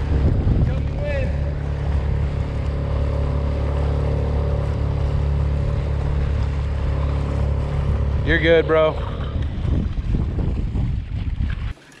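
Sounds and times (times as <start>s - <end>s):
boat motor humming: 0.0s - 11.8s.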